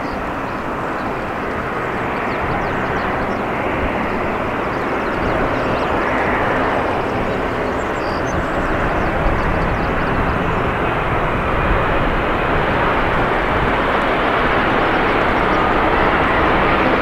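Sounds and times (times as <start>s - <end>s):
jet engine rush: 0.0s - 17.0s.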